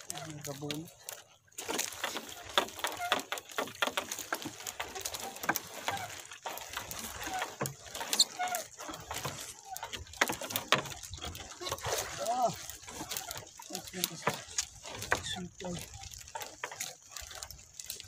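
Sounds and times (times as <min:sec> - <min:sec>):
wet net hauled aboard clicking: 0:00.0 - 0:18.0.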